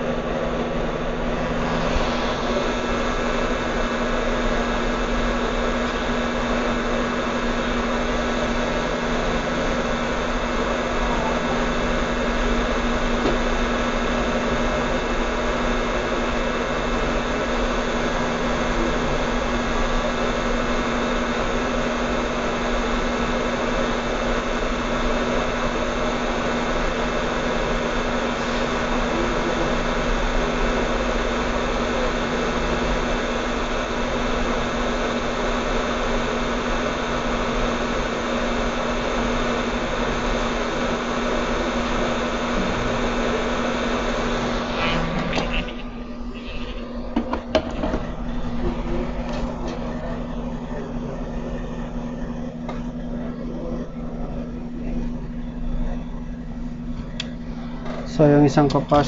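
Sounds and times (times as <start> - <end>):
hot air station blowing: 0.0 - 59.0.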